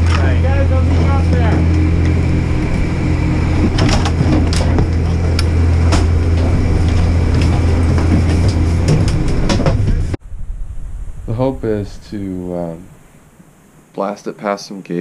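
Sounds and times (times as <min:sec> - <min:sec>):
machinery humming: 0:00.0 - 0:14.3.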